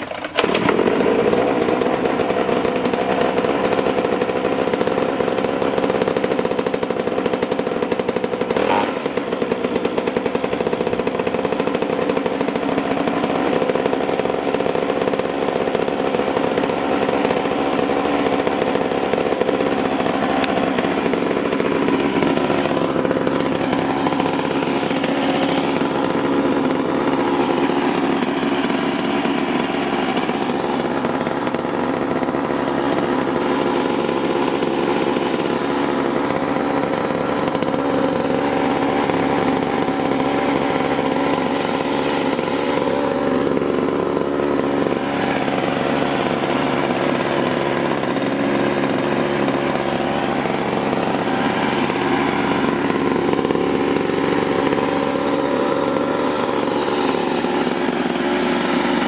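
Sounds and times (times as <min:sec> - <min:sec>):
two-stroke engine running: 0:00.0 - 0:59.0.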